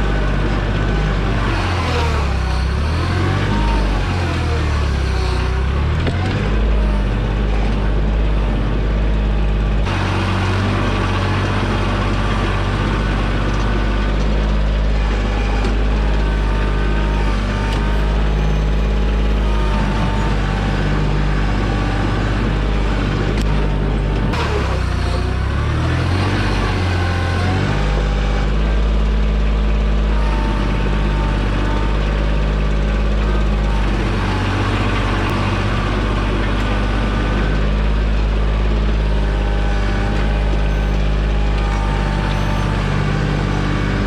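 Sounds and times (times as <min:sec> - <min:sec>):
tractor diesel engine: 0:00.0 - 0:44.0.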